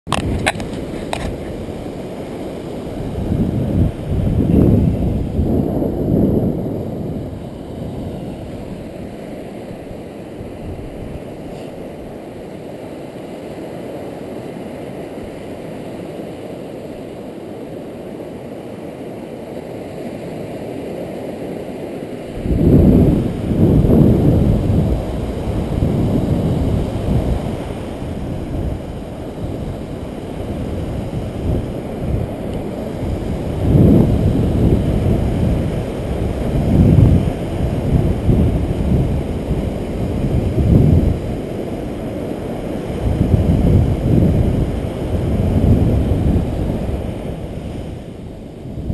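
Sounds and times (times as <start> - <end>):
wind buffeting microphone: 0.1 - 13.0, 21.8 - 48.9
surf breaking on beach: 0.1 - 48.9.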